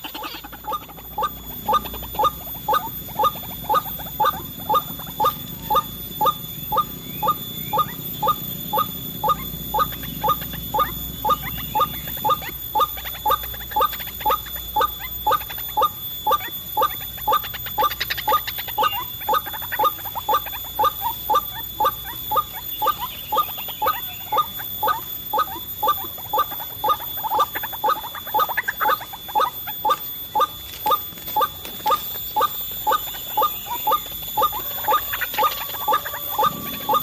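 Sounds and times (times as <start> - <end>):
bird croaking calls: 0.0 - 37.0.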